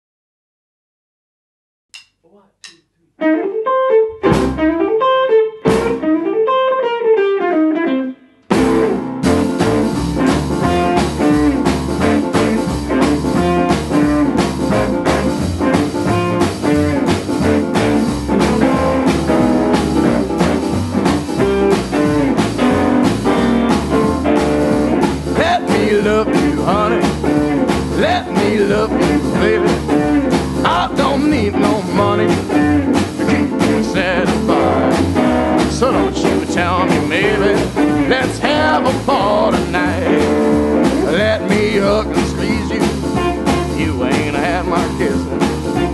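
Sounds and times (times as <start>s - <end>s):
rockabilly band playing: 3.2s - 7.8s, 8.5s - 45.9s.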